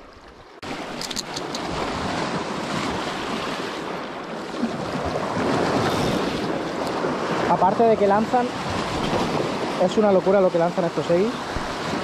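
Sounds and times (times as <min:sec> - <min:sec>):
wind buffeting microphone: 0:00.0 - 0:10.4, 0:11.4 - 0:12.0
sea waves rushing: 0:00.0 - 0:12.0.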